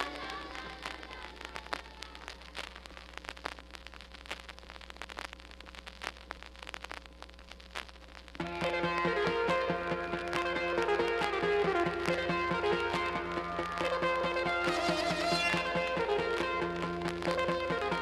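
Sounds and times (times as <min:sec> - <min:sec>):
vinyl crackles and pops: 0:00.0 - 0:18.0.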